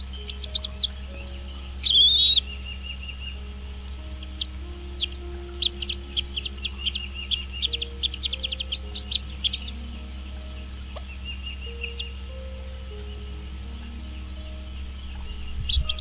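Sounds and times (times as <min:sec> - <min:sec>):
bird chirping: 0:00.0 - 0:16.0
soft background music: 0:00.0 - 0:16.0.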